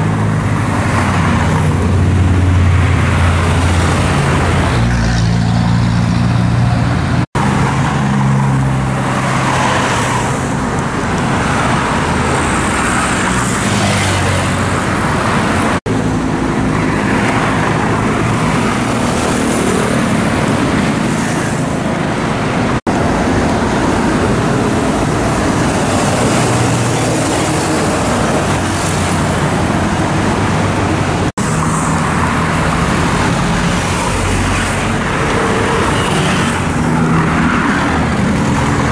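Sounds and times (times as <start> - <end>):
heavy road traffic passing: 0.0 - 38.9.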